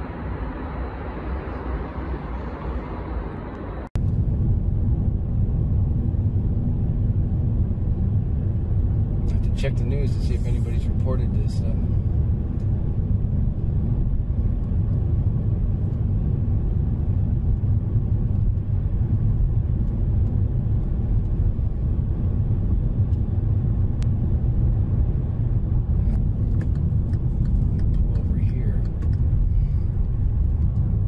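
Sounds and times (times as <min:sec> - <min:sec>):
car engine and tyres rumbling: 0:00.0 - 0:31.0.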